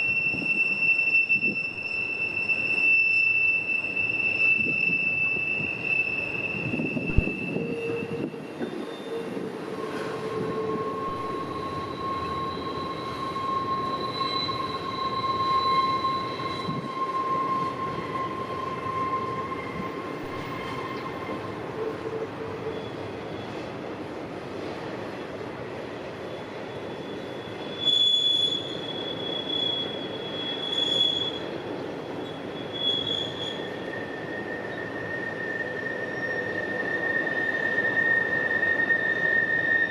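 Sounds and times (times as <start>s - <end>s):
train wheel squeal: 0.0s - 39.9s
train wheels rumbling on rails: 0.0s - 39.9s.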